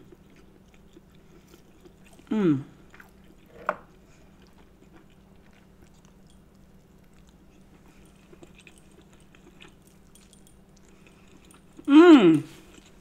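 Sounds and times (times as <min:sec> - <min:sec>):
soft chewing with clicks: 0:00.0 - 0:13.0
steady low hum: 0:00.0 - 0:13.0.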